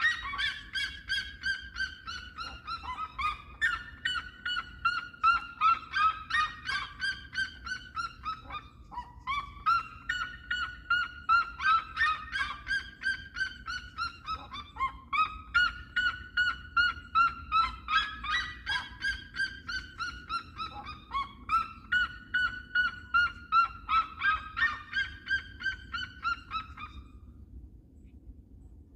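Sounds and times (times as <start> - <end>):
birds yelping loudly: 0.0 - 27.2.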